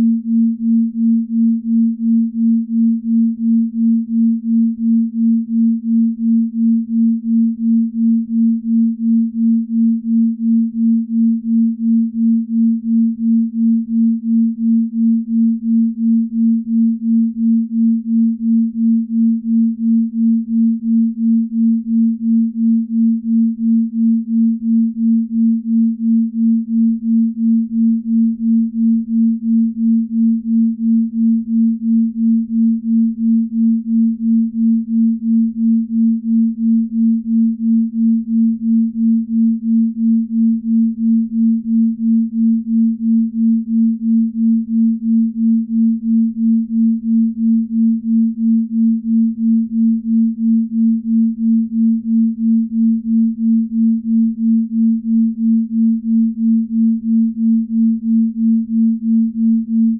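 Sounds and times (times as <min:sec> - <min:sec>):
pulsing sine tone: 0:00.0 - 0:59.9.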